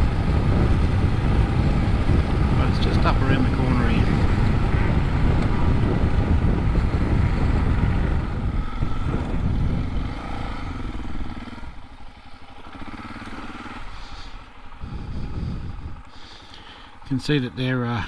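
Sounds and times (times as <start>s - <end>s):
motorcycle engine riding along: 0.0s - 18.0s.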